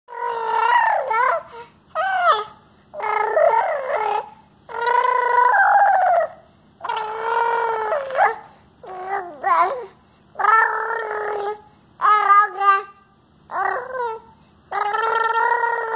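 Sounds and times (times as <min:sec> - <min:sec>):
baby crying: 0:00.1 - 0:12.9, 0:13.5 - 0:15.9.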